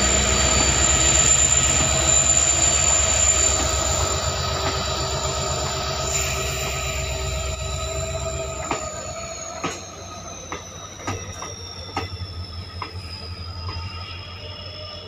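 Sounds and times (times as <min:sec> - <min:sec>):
train wheels squealing on rail: 0:00.0 - 0:15.0.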